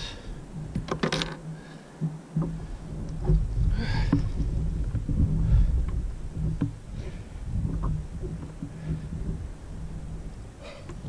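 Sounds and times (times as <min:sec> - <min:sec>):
scraping rustle: 0:00.0 - 0:11.0
wind rumble on microphone: 0:00.0 - 0:11.0.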